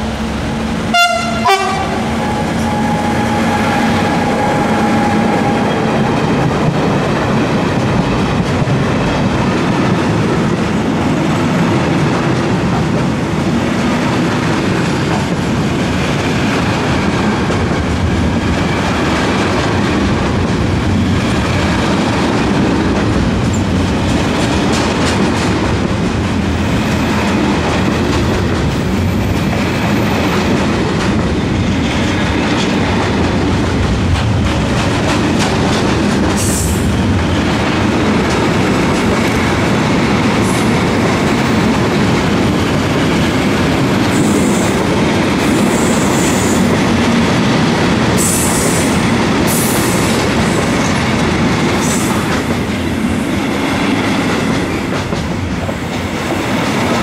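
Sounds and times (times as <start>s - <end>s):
train wheels rumbling and clacking: 0.0s - 57.0s.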